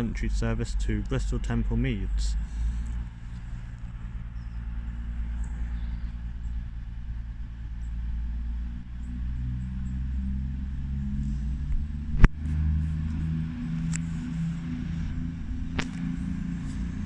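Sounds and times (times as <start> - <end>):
train diesel engines rumbling: 0.0 - 17.0.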